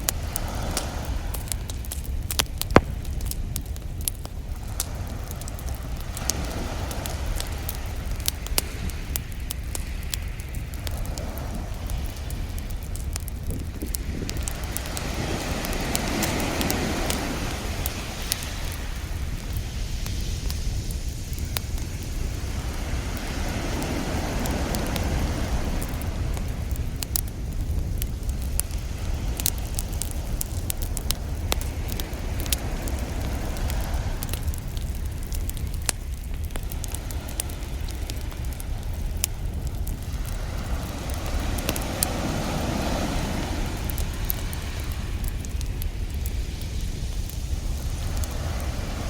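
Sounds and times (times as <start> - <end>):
ocean surf: 0.0 - 3.6, 4.5 - 13.2, 13.9 - 49.0
steady low rumble: 0.0 - 49.0
wood fire crackling and popping: 0.0 - 49.0.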